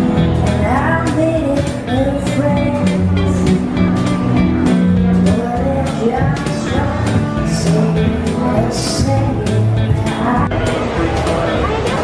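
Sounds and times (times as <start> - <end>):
upbeat song with steady beat: 0.0 - 12.0.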